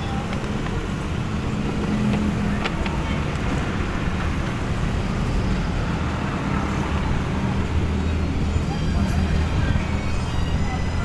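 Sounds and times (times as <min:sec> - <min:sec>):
road traffic rumble: 0:00.0 - 0:11.0
vehicle engine: 0:00.0 - 0:11.0.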